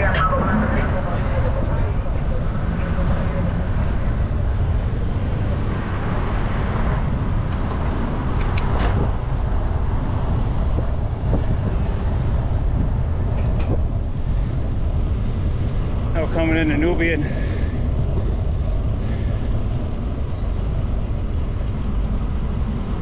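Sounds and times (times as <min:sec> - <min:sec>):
bicycle road rumble: 0:00.0 - 0:23.0
wind rushing: 0:00.0 - 0:23.0.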